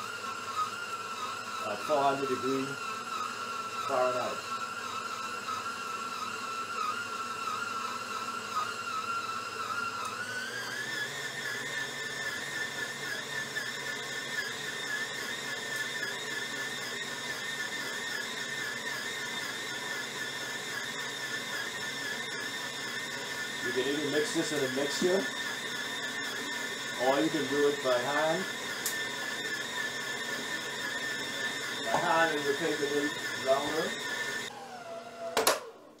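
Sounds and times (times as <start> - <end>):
stand mixer motor whining: 0.0 - 36.0.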